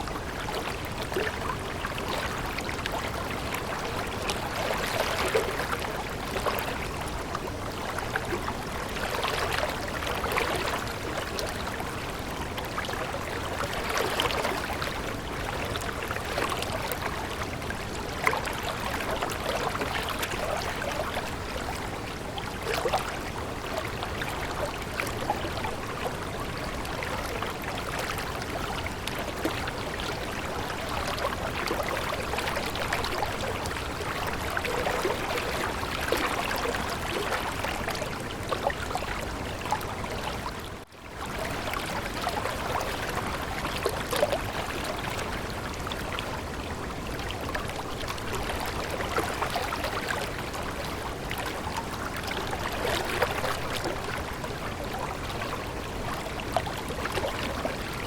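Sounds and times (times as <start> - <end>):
stream babbling: 0.0 - 58.0.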